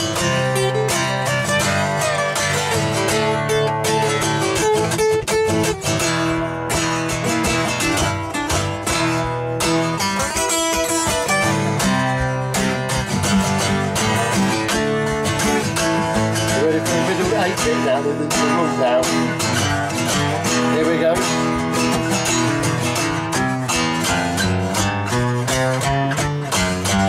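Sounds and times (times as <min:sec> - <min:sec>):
acoustic guitars strumming chords: 0:00.0 - 0:27.0.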